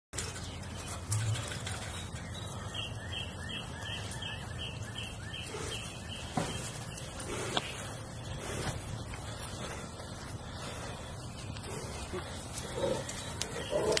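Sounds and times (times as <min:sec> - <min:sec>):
bird chirping: 0:00.2 - 0:14.0.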